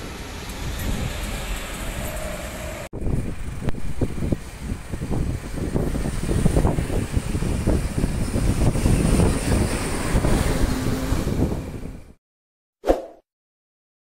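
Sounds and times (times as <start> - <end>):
bus driving past: 0.0 - 12.2
wind buffeting microphone: 0.1 - 12.2.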